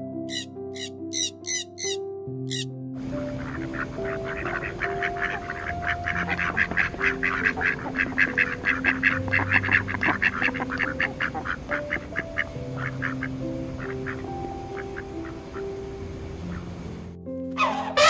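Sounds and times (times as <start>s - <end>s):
soft background music: 0.0s - 18.0s
ducks quacking: 0.2s - 18.0s.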